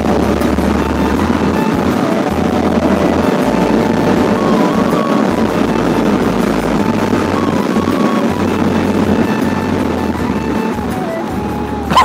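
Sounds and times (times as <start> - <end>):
background music with bass: 0.0 - 12.0
motorcycle engine: 0.0 - 12.0
wind rush: 0.0 - 12.0.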